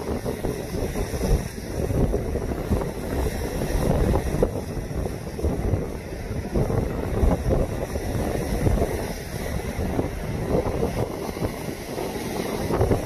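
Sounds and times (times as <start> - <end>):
gusty wind buffeting microphone: 0.0 - 13.0
waves breaking against shore: 0.0 - 13.0.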